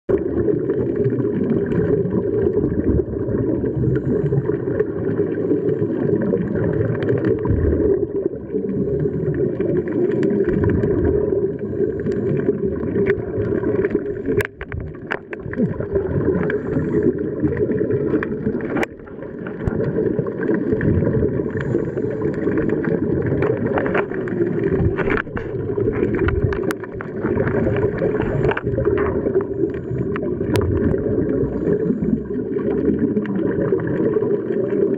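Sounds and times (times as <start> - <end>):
underwater regulator bubbles gurgling: 0.1 - 34.9.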